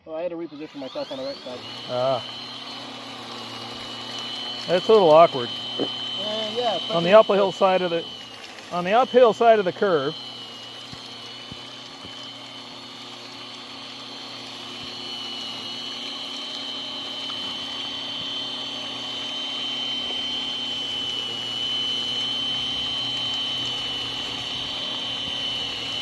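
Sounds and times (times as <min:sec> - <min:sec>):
ballast regulator running on track: 0:00.4 - 0:26.0.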